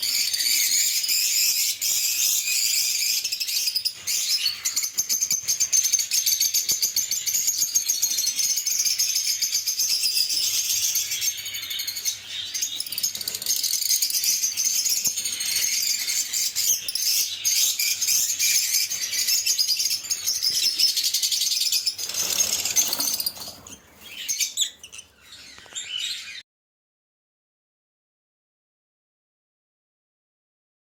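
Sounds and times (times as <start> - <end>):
lovebirds chirping: 0.0 - 26.4.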